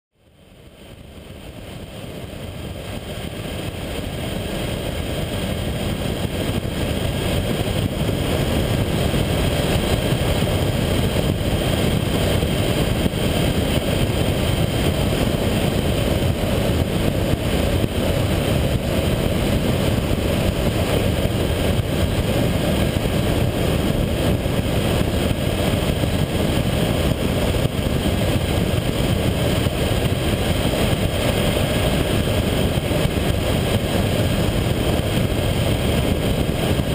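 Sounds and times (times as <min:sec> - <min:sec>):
wind and road noise: 0:00.2 - 0:36.9
motorcycle engine running: 0:00.5 - 0:36.9.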